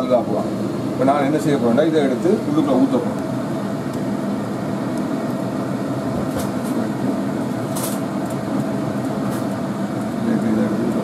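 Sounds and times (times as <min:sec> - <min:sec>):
water at a rolling boil: 0:00.0 - 0:11.0.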